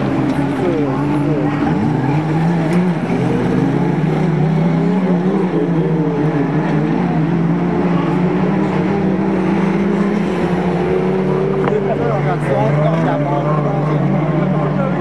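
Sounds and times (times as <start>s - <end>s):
race truck engines revving: 0.0s - 15.0s.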